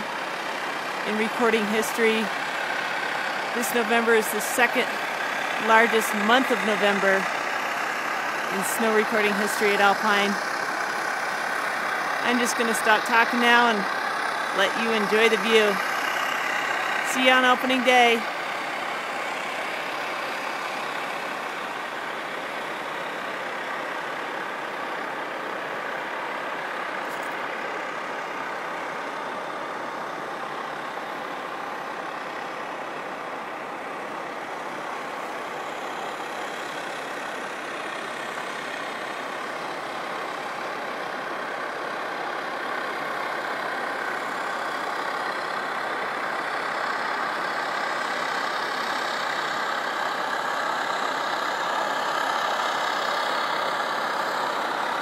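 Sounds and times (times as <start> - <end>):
steady machine noise: 0.0 - 55.0.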